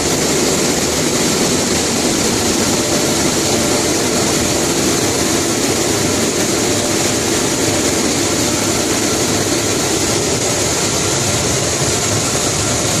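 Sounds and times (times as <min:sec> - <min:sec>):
machine running loudly: 0:00.0 - 0:13.0.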